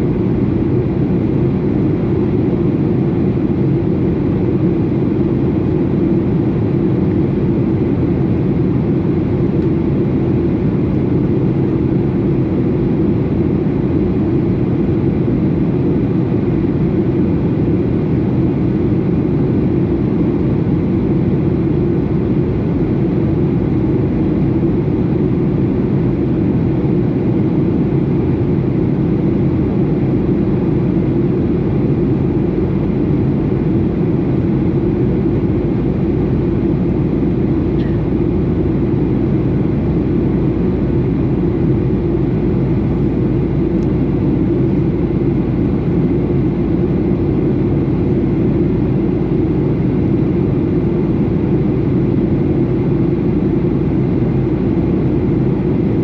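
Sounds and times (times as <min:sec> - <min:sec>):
jet engine roar inside cabin: 0:00.0 - 0:56.0.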